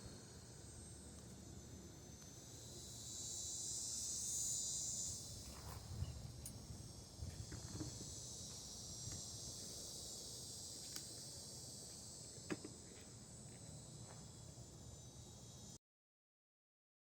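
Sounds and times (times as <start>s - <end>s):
high-pitched insect chorus: 0.0s - 15.8s.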